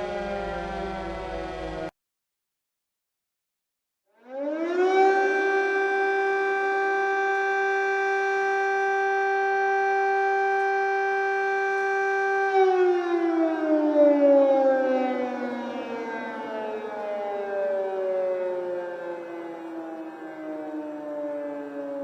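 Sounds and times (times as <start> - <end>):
air raid siren winding down: 0.0 - 1.9, 4.1 - 22.0.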